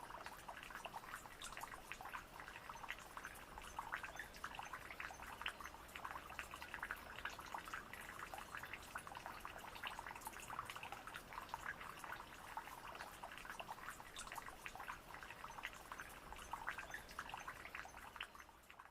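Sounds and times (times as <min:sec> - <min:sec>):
waterfall splashing and trickling: 0:00.0 - 0:18.9.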